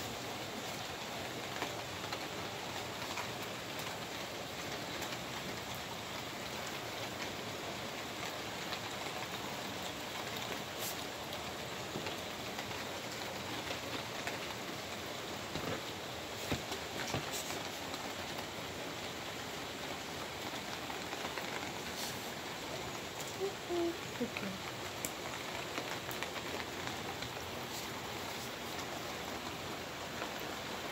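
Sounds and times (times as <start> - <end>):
rain on concrete: 0.0 - 30.9.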